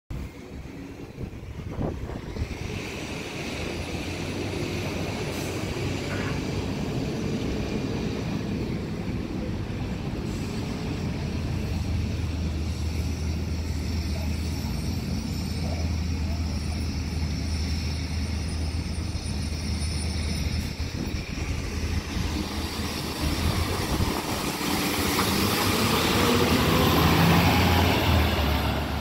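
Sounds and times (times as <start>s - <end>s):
bus engine hum: 0.1s - 29.0s.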